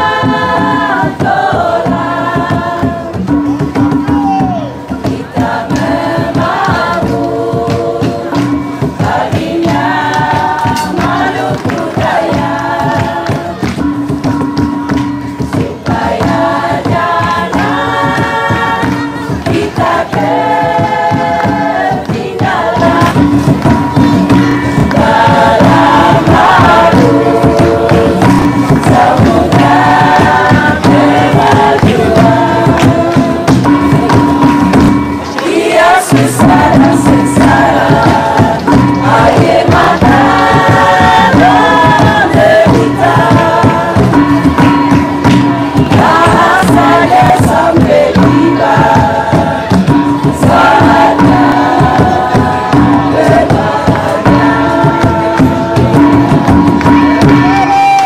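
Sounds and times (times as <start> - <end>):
choir singing: 0.0 - 13.8, 15.4 - 57.7
hand drums beating: 0.0 - 58.0.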